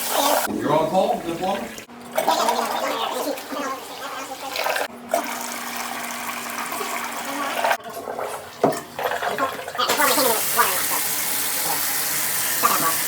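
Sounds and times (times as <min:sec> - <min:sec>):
water gurgling through plumbing: 0:00.0 - 0:13.0.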